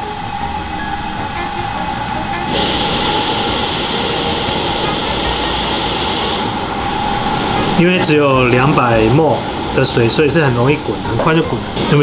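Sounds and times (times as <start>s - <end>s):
camping stove roaring: 0.0s - 12.0s.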